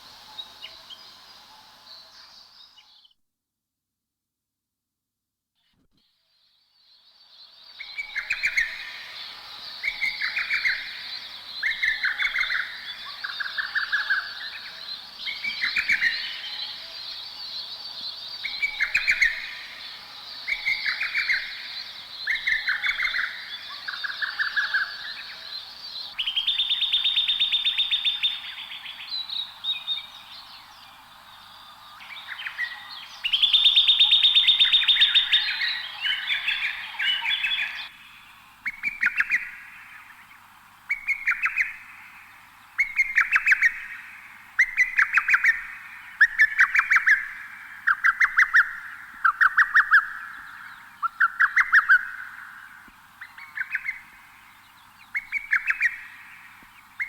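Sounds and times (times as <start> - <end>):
high background hiss: 0.0 - 3.1, 5.6 - 57.0
bird song phrases: 6.3 - 57.0.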